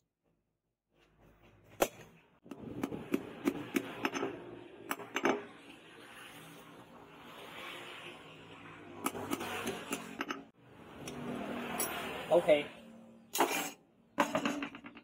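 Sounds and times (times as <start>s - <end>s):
workshop noise: 0.9s - 15.0s.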